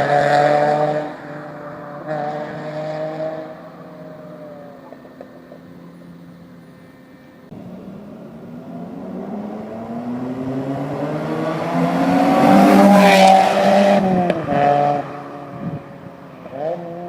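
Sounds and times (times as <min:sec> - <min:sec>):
car engine accelerating: 0:00.0 - 0:06.6, 0:07.4 - 0:17.0.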